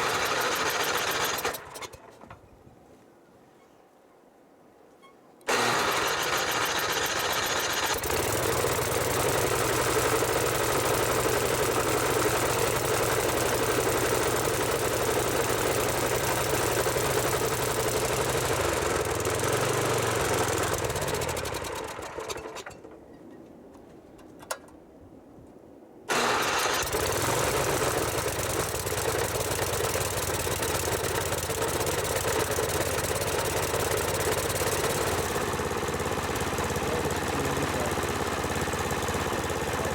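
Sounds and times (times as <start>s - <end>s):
snow blower engine running: 0.0s - 2.1s, 5.5s - 22.8s, 26.1s - 39.9s.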